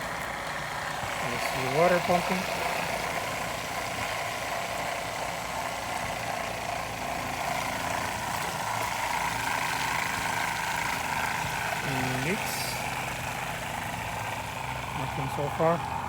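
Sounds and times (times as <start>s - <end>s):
water pump running: 0.0s - 16.0s.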